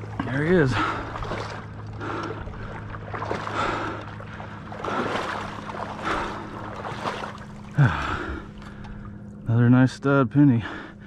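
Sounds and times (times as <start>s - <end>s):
water sloshing from wading: 0.0s - 9.6s
steady low hum: 0.0s - 11.0s.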